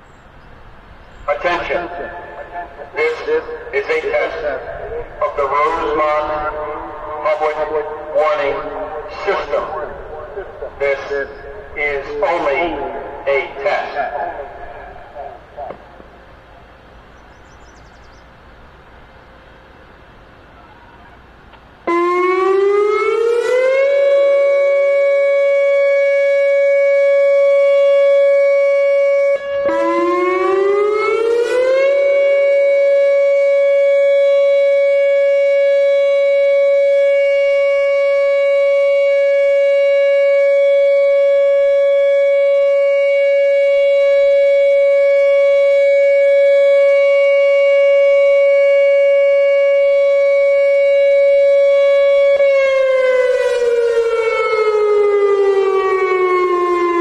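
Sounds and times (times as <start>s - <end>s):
electronic warning siren tone: 1.2s - 16.3s, 21.9s - 57.0s.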